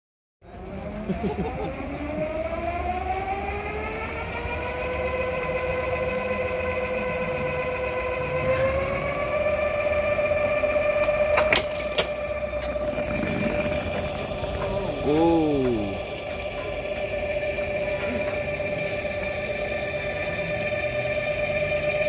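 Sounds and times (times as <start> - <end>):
electric whine of mechanical lure: 0.4 - 22.0.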